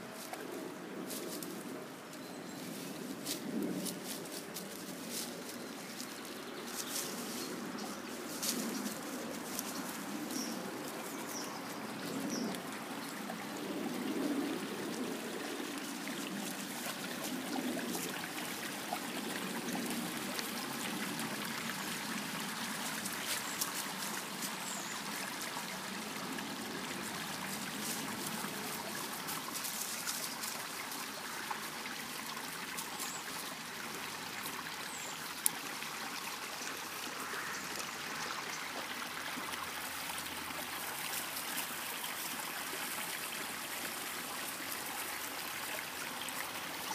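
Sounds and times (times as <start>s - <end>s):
stream trickling: 0.0s - 46.9s.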